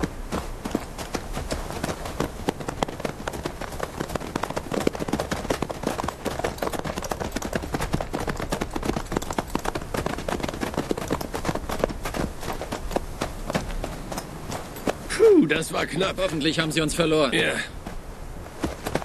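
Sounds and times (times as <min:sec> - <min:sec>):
galloping horse hoofbeats: 0:00.0 - 0:15.2, 0:17.9 - 0:19.0.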